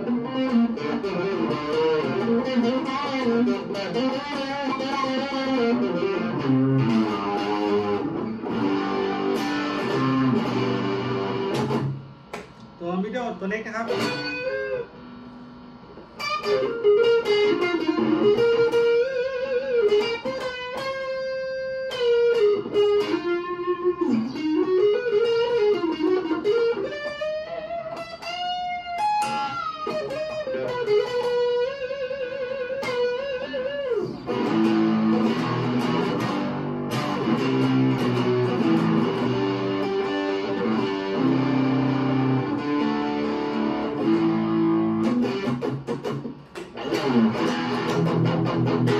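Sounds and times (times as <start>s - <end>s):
electric guitar through an amp: 0.0s - 48.9s.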